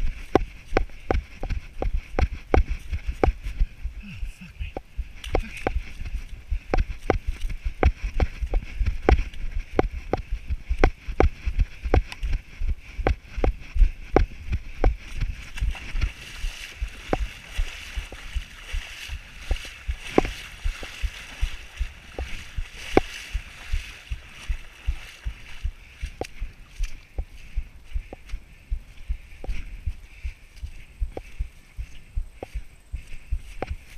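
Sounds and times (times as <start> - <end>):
running footsteps thudding: 0.0 - 4.0, 4.8 - 33.9.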